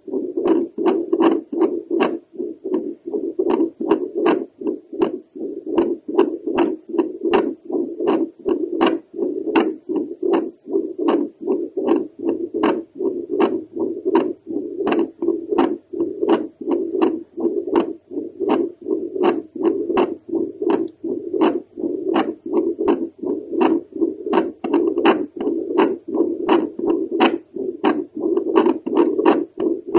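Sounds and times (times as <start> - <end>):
sharp heartbeat click: 0.0 - 29.9
whooshing heartbeat pulse: 0.0 - 29.9.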